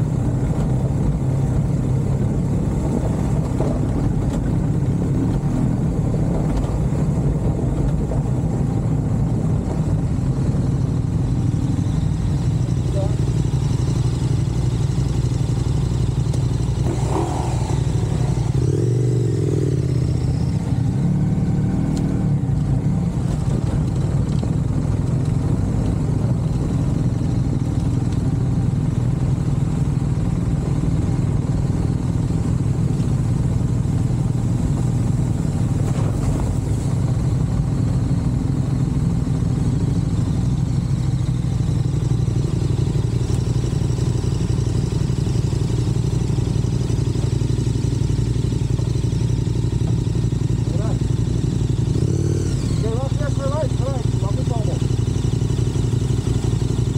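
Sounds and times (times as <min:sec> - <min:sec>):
vehicle engine rumbling: 0:00.0 - 0:56.9.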